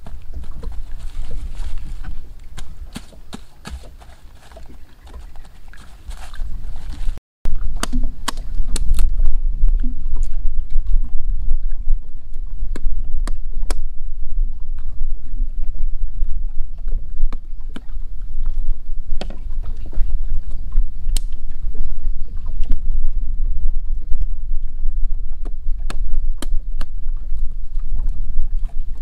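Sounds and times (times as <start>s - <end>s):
low rumble: 4.7s - 29.0s.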